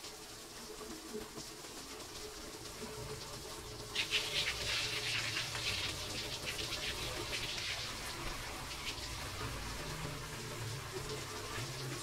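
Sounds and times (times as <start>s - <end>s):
water jets splashing into basin: 0.0s - 12.0s.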